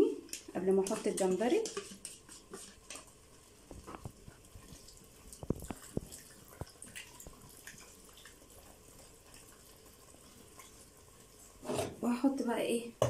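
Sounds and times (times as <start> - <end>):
wet squelching of stirring: 0.0 - 12.3.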